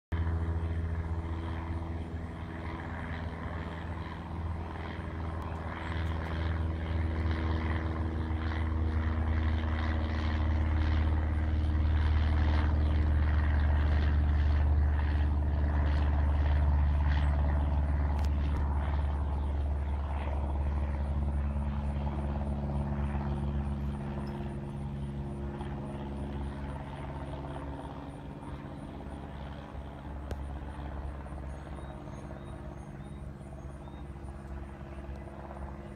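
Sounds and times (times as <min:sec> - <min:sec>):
propeller plane droning overhead: 0:00.1 - 0:35.9.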